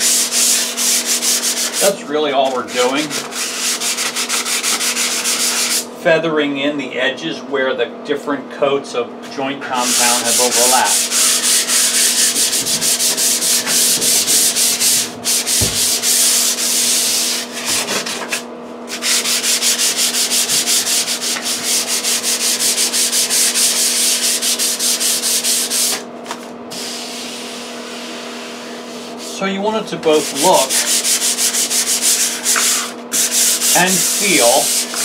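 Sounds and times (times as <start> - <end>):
sandpaper sanding drywall: 0.0 - 5.9, 9.7 - 26.1, 26.7 - 35.0.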